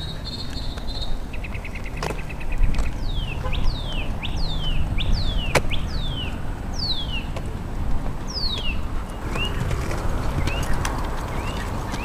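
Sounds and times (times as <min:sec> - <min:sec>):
wind buffeting microphone: 0:02.2 - 0:12.0.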